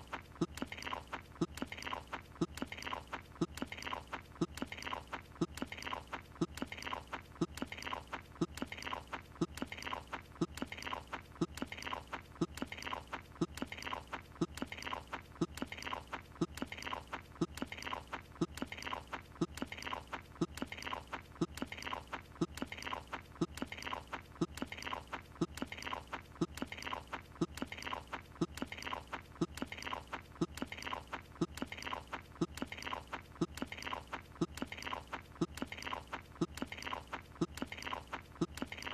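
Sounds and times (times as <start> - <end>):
cartoon chewing noises: 0.0 - 38.9.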